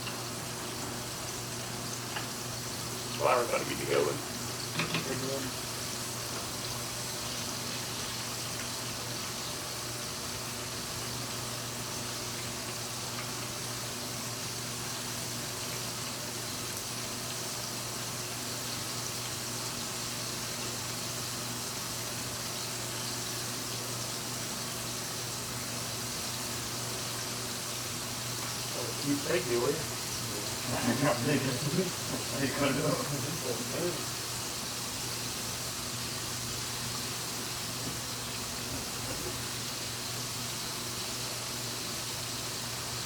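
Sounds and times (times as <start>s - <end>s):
food deep-frying in oil: 0.0s - 43.0s.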